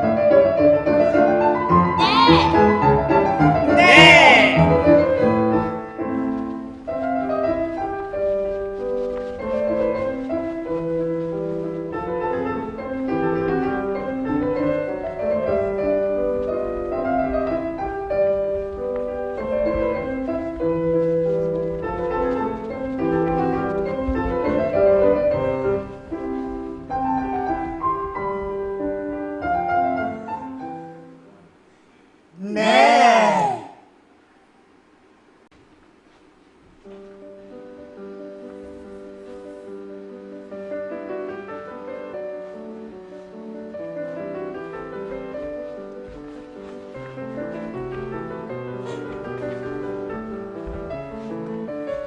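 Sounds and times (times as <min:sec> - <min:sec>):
solo piano melody: 0:00.0 - 0:31.6, 0:36.8 - 0:52.0.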